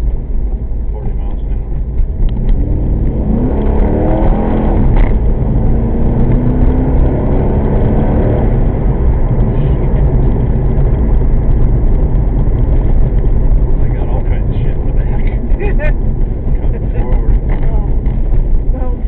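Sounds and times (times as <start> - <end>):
car engine accelerating hard: 0.0 - 19.0
road noise: 0.0 - 19.0.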